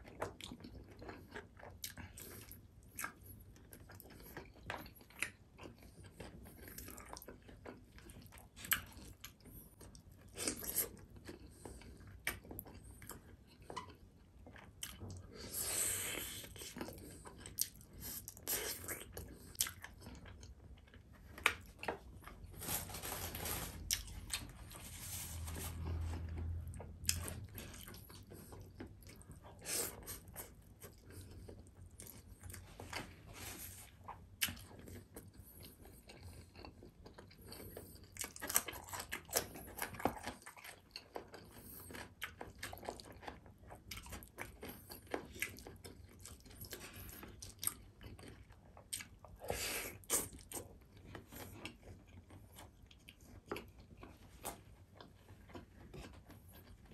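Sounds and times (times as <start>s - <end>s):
person chewing: 0.0s - 56.9s.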